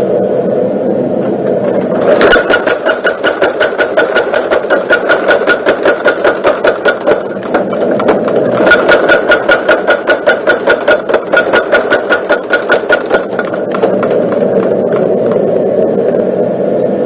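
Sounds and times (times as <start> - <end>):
motor hum: 0.0 - 17.0
power hammer striking: 1.6 - 15.4.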